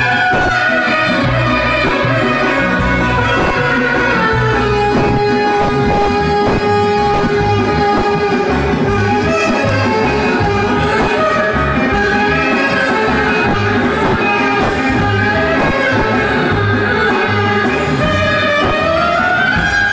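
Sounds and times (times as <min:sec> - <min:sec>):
electronic keyboard melody: 0:00.0 - 0:19.9
folk dance band over speakers: 0:00.0 - 0:19.9.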